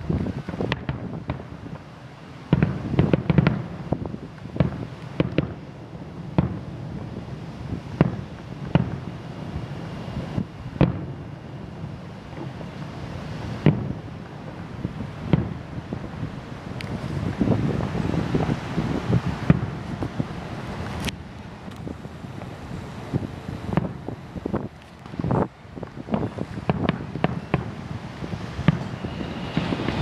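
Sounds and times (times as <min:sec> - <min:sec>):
distant fireworks booming: 0:00.0 - 0:30.0.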